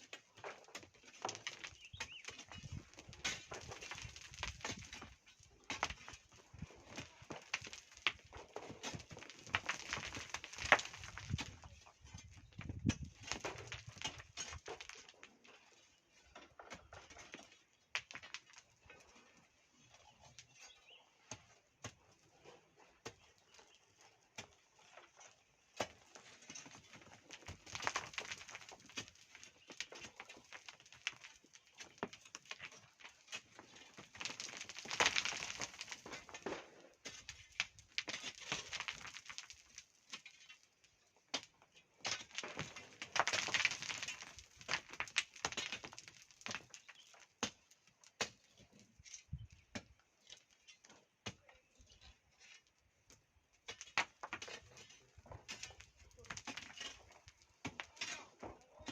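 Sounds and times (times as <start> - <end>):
hand tools digging sand and stone: 0.0 - 18.4, 19.1 - 40.7, 41.3 - 52.6, 53.6 - 58.9.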